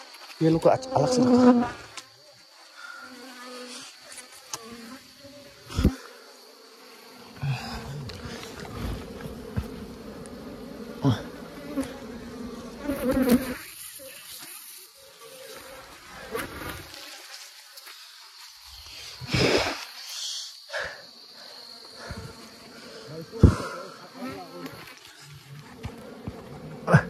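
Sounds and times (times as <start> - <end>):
bees buzzing: 0.5 - 27.0.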